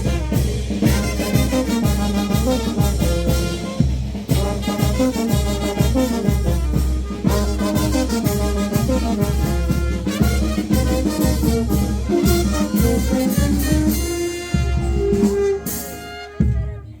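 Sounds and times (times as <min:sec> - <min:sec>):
upbeat dance music with brass: 0:00.0 - 0:17.0.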